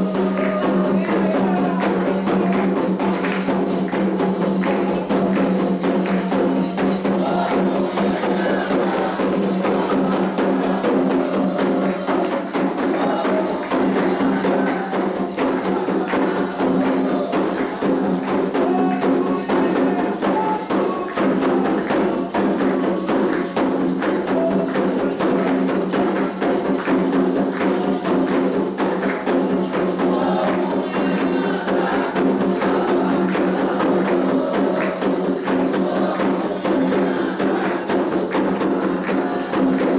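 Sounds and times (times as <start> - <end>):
hand drums beating fast rhythm: 0.0 - 39.9
voices singing: 0.0 - 39.9.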